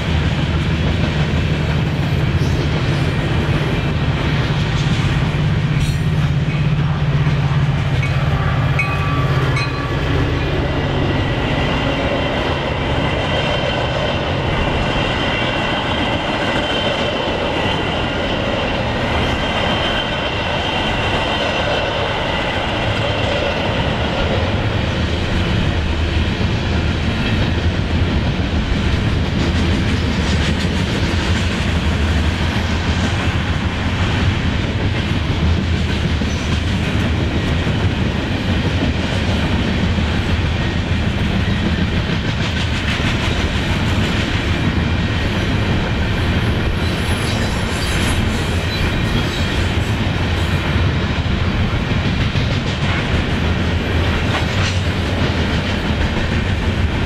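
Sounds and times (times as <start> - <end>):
train rumble and wheel clatter: 0.0 - 57.0.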